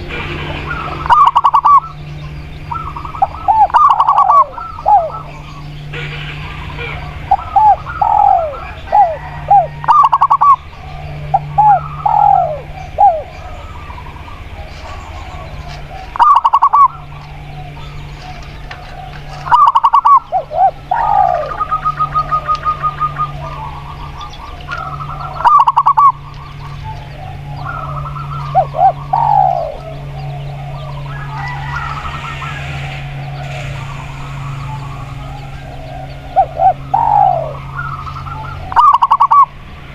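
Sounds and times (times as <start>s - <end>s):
doves cooing: 0.0s - 39.9s
steady low hum: 0.0s - 39.9s.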